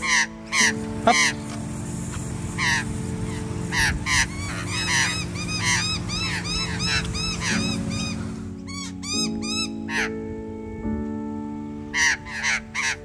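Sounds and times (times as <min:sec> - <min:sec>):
bird calling harshly: 0:00.0 - 0:10.2, 0:12.0 - 0:13.0
background music with held chords: 0:00.0 - 0:13.0.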